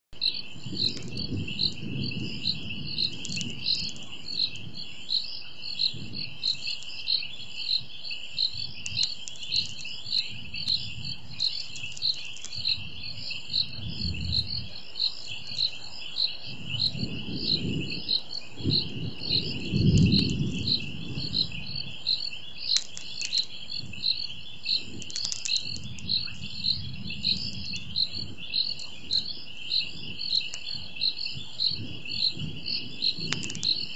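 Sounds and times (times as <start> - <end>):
crickets trilling: 0.2 - 33.9.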